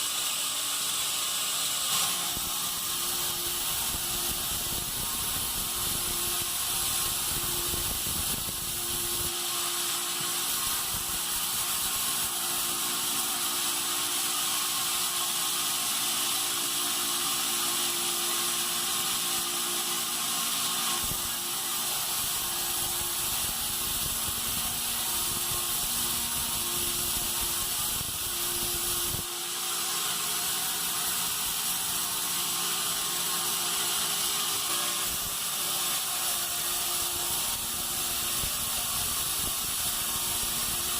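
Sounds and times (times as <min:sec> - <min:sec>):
bandsaw mill sawing wood: 0:00.0 - 0:40.9.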